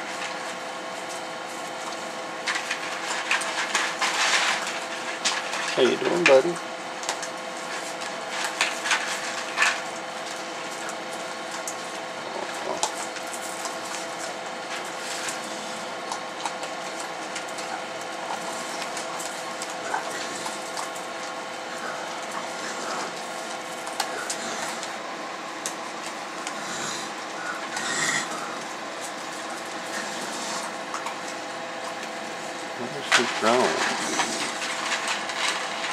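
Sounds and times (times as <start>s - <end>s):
animals eating dry kibble: 0.0s - 35.9s
steady hum: 0.0s - 35.9s.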